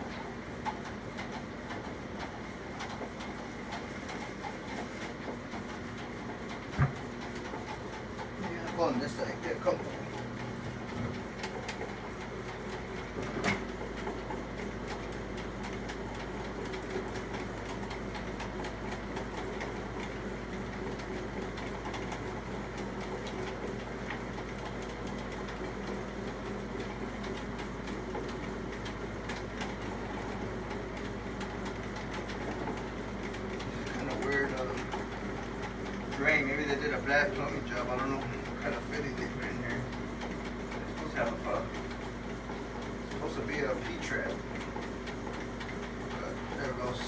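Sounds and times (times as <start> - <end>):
spinning cable ticking and rattling: 0.1 - 47.0
drain snake motor humming: 2.1 - 47.0.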